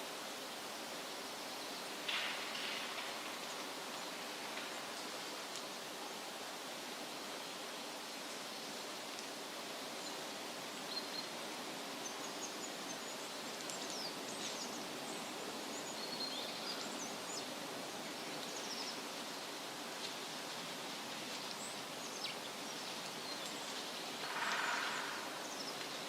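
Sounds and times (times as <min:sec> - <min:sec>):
wind rustling through trees: 0:00.0 - 0:26.0.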